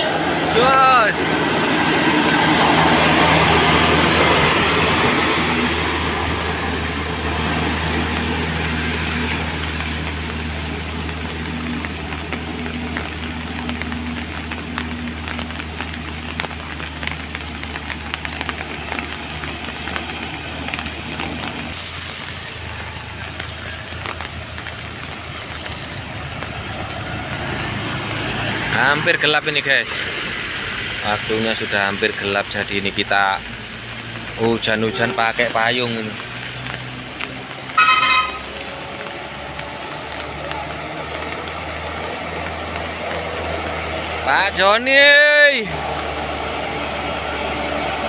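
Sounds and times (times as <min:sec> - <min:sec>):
rain pattering: 0:00.0 - 0:48.0
truck diesel engine running: 0:00.0 - 0:48.0.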